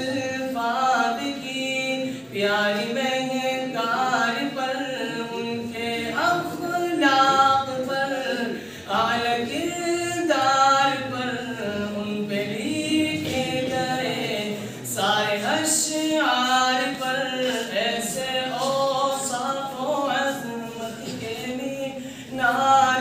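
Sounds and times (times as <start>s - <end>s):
man singing unaccompanied: 0.0s - 23.0s.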